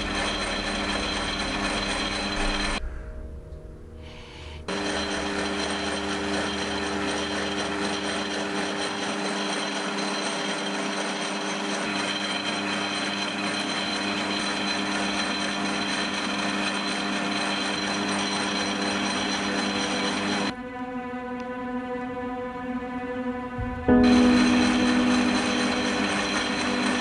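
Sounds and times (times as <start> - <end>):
metal lathe cutting: 0.0 - 2.8, 4.7 - 20.5, 23.9 - 27.0.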